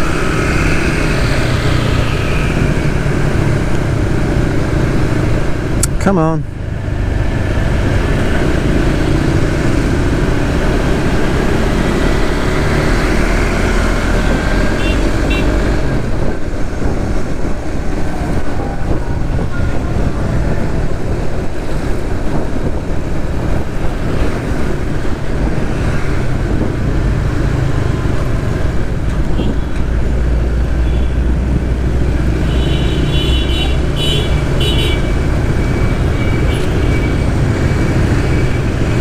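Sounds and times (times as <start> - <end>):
loud road noise: 0.0 - 39.0.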